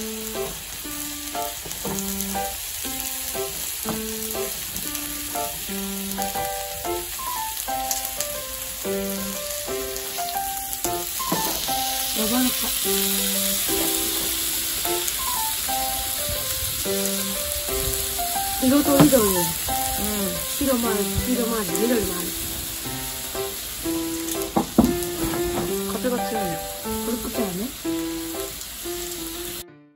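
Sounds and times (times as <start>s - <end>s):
meat sizzling on a grill plate: 0.0s - 29.6s
light background melody: 0.0s - 29.9s.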